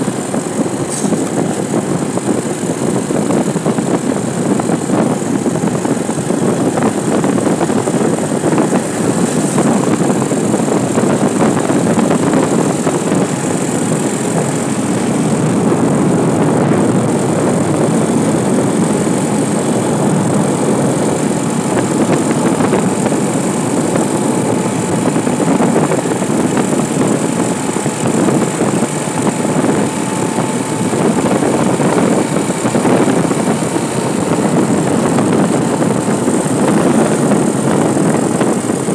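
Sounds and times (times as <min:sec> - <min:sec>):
vehicle engine drone: 0:00.0 - 0:38.9
wind rushing over microphone: 0:00.0 - 0:38.9.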